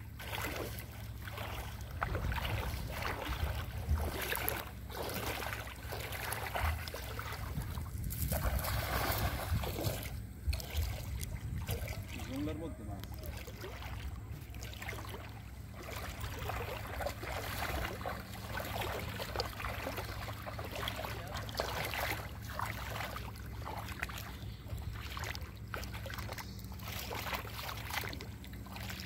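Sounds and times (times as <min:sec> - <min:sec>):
low hum: 0:00.0 - 0:29.0
shallow water sloshing and splashing: 0:00.0 - 0:29.0.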